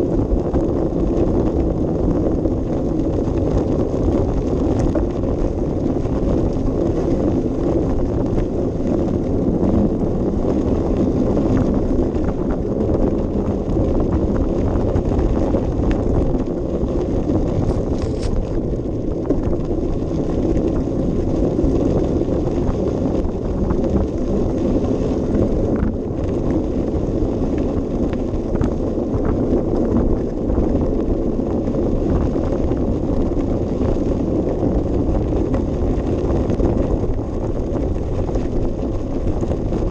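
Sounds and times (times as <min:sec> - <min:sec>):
tyre and path rumble: 0:00.0 - 0:39.9
wind buffeting microphone: 0:00.0 - 0:39.9.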